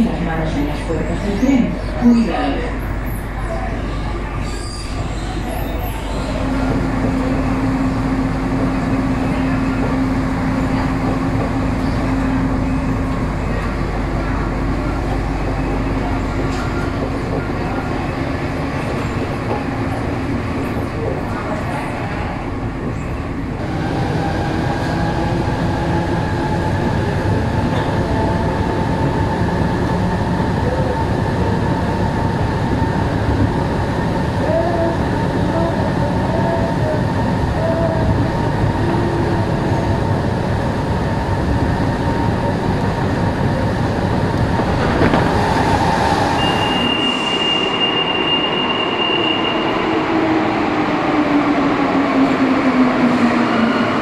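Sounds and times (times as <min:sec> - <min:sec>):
metro train rumbling: 0:00.0 - 0:54.0.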